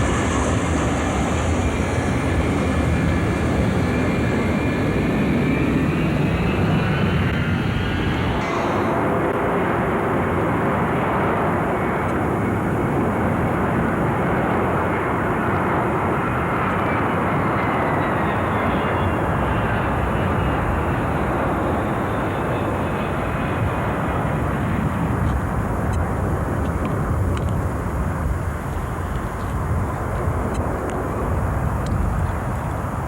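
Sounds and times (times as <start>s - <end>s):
jet engines rushing: 0.0s - 33.0s.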